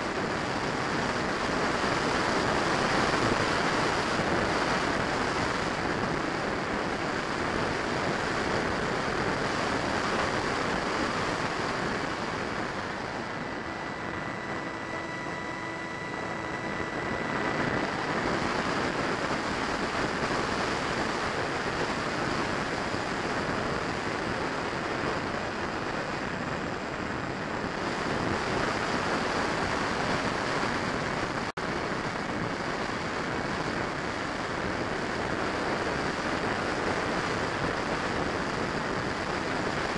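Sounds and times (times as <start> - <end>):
ducted fan jet rushing air: 0.0 - 39.9
faint steady whine: 0.0 - 39.9.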